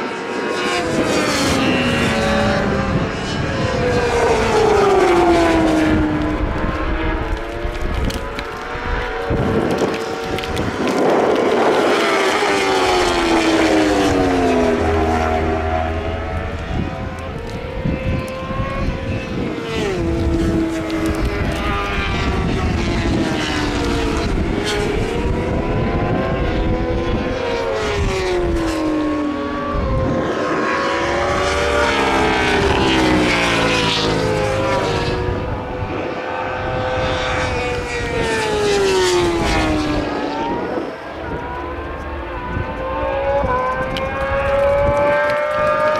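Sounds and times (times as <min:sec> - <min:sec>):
racing motorcycles passing: 0:00.0 - 0:45.9.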